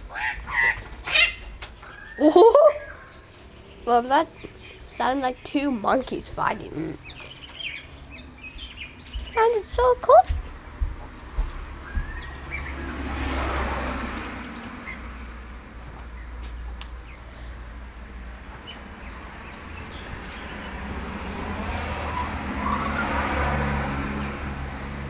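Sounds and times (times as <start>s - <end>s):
vehicles passing on road: 0.0s - 25.0s.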